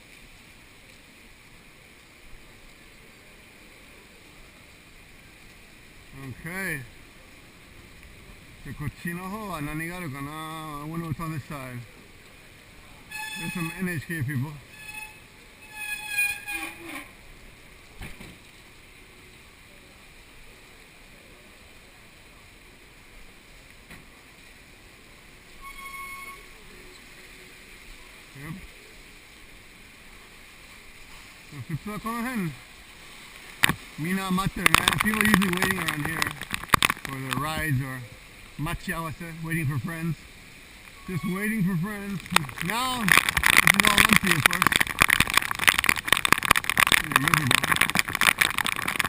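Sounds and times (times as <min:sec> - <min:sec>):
rain hitting camera: 0:00.0 - 0:49.0
wind: 0:00.0 - 0:49.0.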